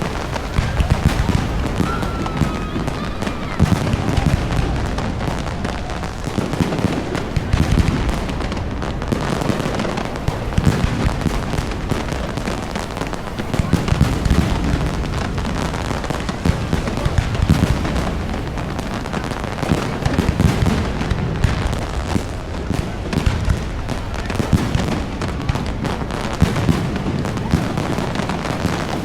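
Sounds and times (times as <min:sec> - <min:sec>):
fireworks booms and cracks: 0:00.0 - 0:29.0.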